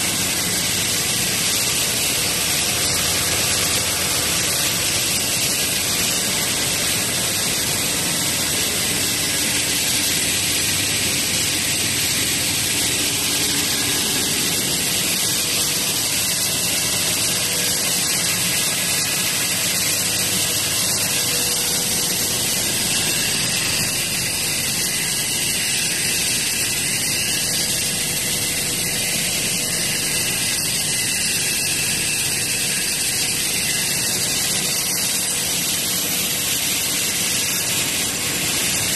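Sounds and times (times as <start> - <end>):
constant motor hum: 0.0 - 38.9
machinery hiss: 0.0 - 38.9.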